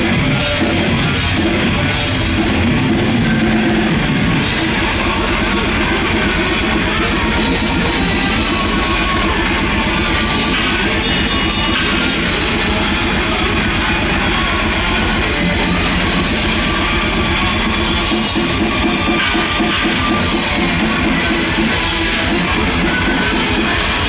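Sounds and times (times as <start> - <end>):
distorted electric guitars: 0.0 - 24.0
rapid drumming: 0.0 - 24.0.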